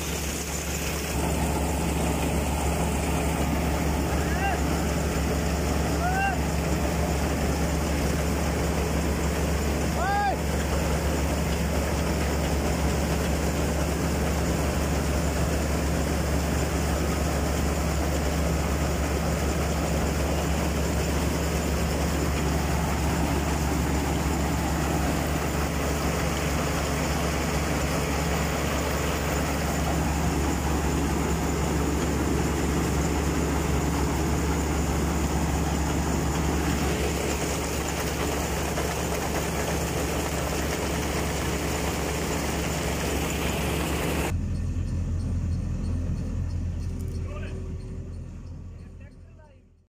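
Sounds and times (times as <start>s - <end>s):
diesel engine running steadily: 0.0s - 49.9s.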